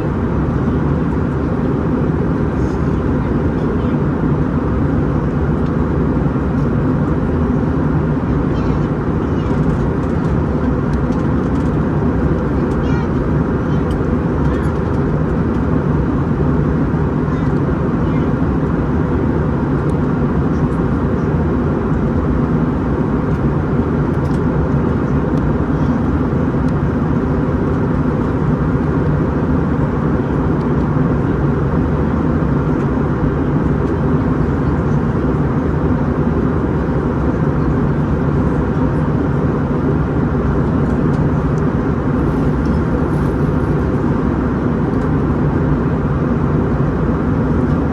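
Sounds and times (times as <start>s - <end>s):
jet engine drone: 0.0s - 47.9s.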